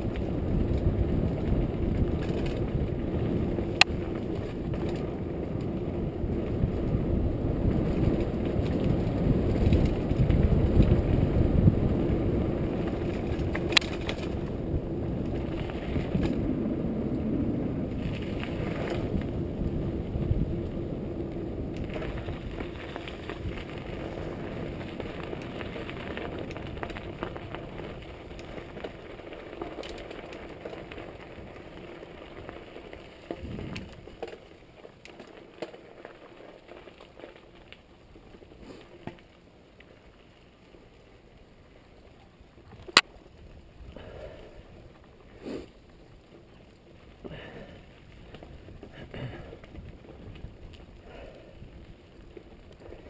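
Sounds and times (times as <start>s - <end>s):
bike rattles and clicks: 0.0s - 53.0s
bike tyres rolling on dirt: 0.0s - 53.0s.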